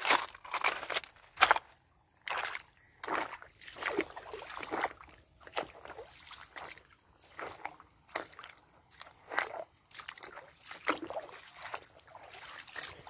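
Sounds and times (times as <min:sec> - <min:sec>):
footsteps through shallow water on pebbles: 0:00.0 - 0:13.0.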